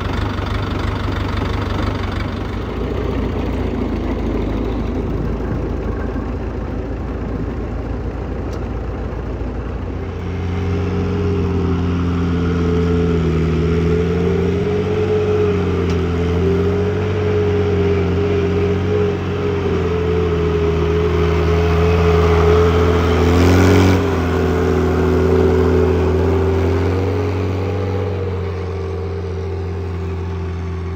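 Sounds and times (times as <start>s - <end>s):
tractor engine running under load: 0.0s - 30.9s.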